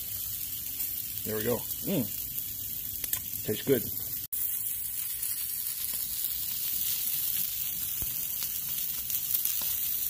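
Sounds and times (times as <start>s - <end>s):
steaks sizzling on a grill: 0.0s - 10.0s.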